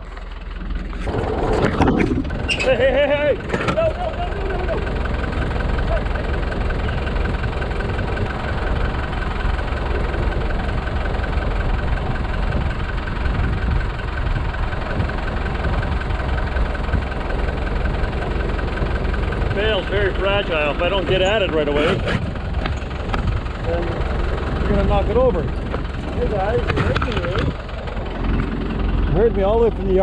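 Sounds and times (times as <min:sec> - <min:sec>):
small tractor engine running: 0:00.0 - 0:30.0.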